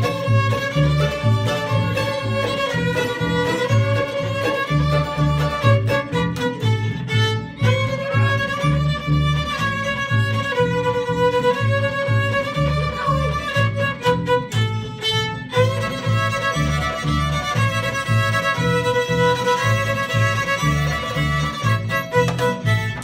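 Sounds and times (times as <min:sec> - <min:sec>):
fiddles playing folk melody: 0:00.0 - 0:23.0
upright bass plucking: 0:00.0 - 0:23.0.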